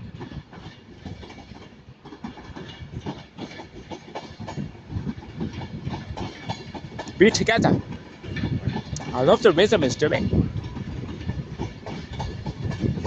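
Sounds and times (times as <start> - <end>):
electric train passing: 0.0 - 13.0
train wheels clicking over rail joints: 0.0 - 13.0.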